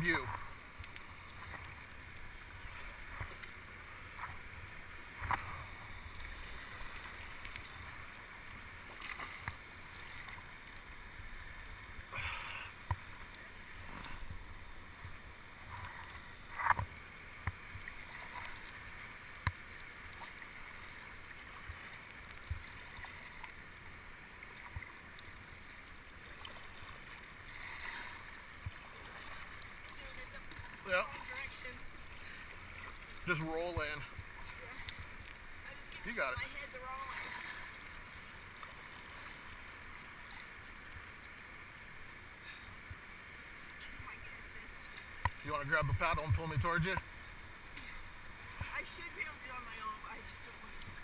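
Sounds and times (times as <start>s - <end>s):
water sloshing around kayaks: 0.0s - 51.0s.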